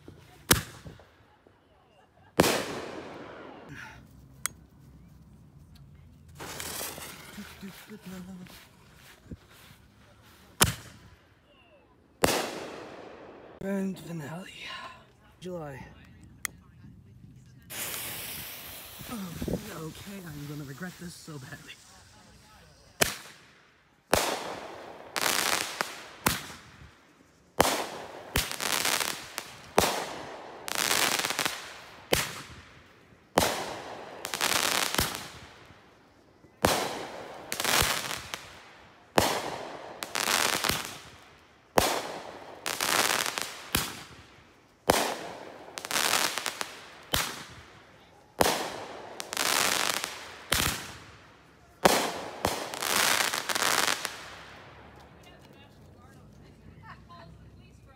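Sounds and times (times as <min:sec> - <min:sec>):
fireworks bangs and crackling: 0:00.0 - 0:01.6, 0:02.3 - 0:03.9, 0:06.4 - 0:11.3, 0:12.1 - 0:14.5, 0:17.6 - 0:55.7.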